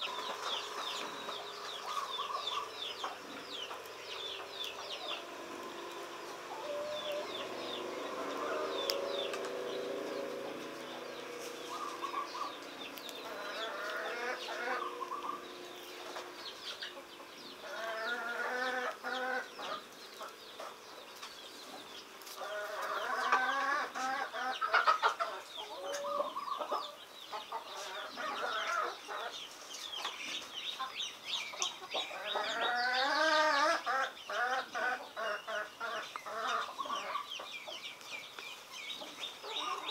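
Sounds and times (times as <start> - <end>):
birds clucking: 0.0 - 39.9.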